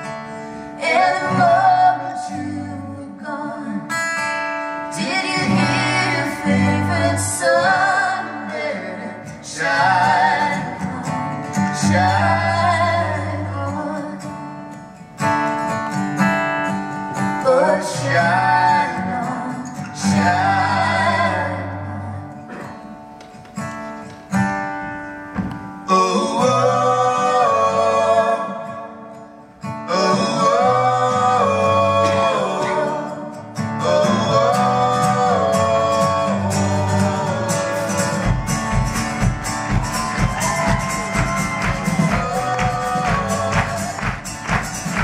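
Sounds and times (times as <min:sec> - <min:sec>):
acoustic guitar: 0:00.0 - 0:45.0
people singing in harmony: 0:00.4 - 0:03.9, 0:04.9 - 0:14.4, 0:17.2 - 0:22.7, 0:25.7 - 0:45.0.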